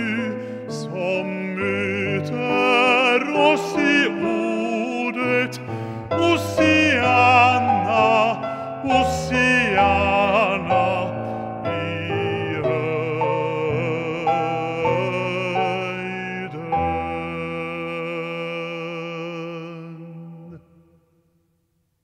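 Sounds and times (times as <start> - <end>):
church echo: 0.0 - 21.8.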